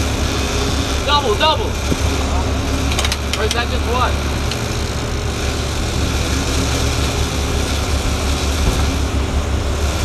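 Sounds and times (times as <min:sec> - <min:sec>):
boat engines humming: 0:00.0 - 0:10.0
rushing wake water: 0:00.0 - 0:10.0.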